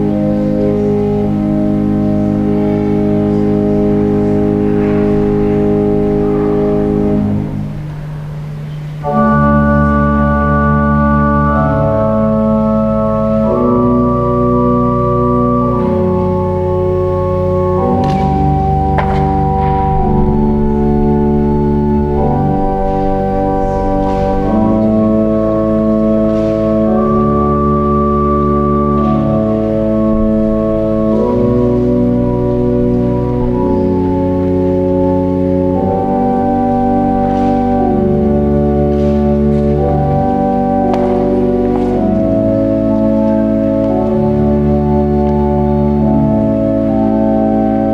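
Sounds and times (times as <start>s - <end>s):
organ playing slow chords: 0.0s - 47.9s.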